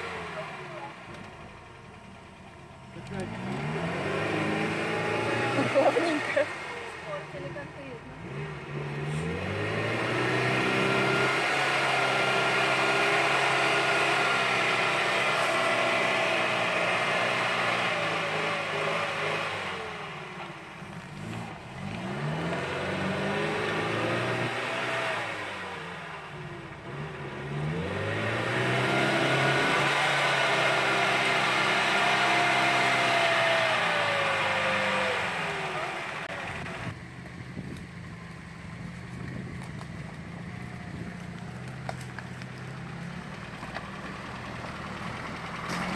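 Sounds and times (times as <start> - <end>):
off-road vehicle engine revving: 0.0 - 45.9.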